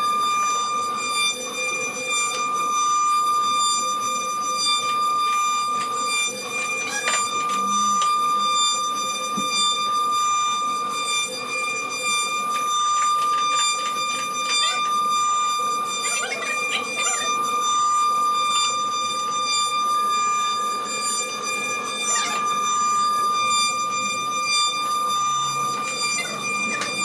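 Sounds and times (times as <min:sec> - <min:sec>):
wood router whining: 0:00.0 - 0:27.0.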